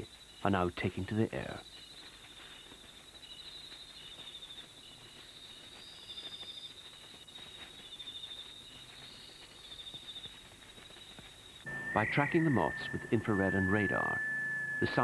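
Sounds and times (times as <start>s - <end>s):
insect pulsing trill: 0.0s - 15.0s.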